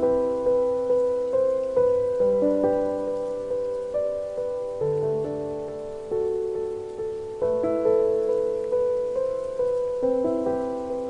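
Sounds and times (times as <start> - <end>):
rain hissing: 0.0 - 11.0
slow sad solo piano music: 0.0 - 11.0.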